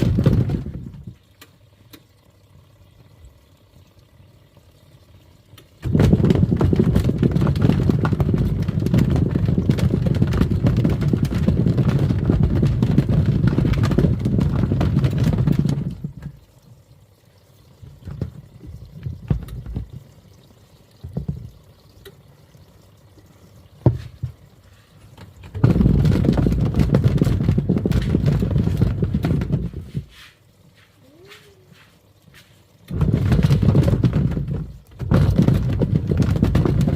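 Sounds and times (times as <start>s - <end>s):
washing machine churning water: 0.0s - 36.9s.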